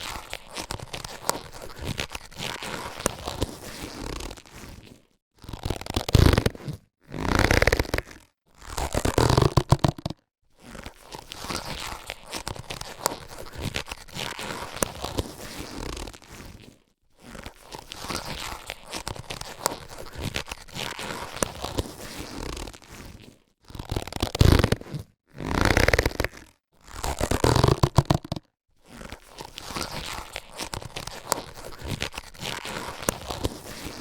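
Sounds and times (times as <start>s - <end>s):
latex crinkling with squeaks: 0.0s - 34.0s
latex gloves stretching and rubbing: 0.0s - 34.0s.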